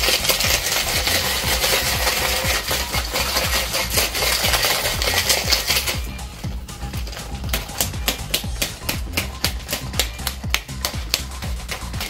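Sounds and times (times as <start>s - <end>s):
ice rattling in cocktail shaker: 0.0s - 12.0s.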